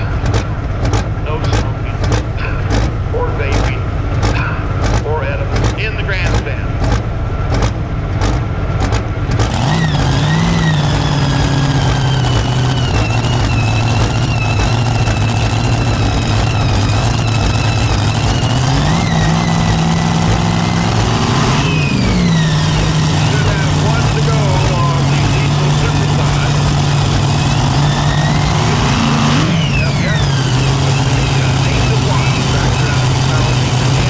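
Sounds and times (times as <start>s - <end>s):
diesel engine revving: 0.0s - 34.0s
high whine: 0.0s - 34.0s.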